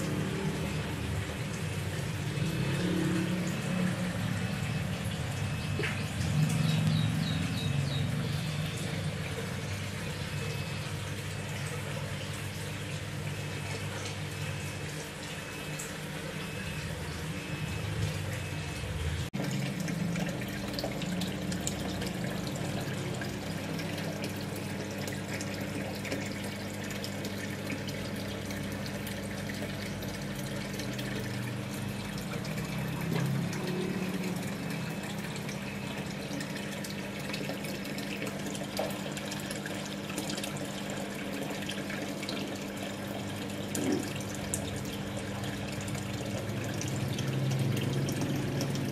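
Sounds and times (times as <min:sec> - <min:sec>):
filter water splashing: 0:00.0 - 0:48.9
pump humming: 0:00.0 - 0:48.9.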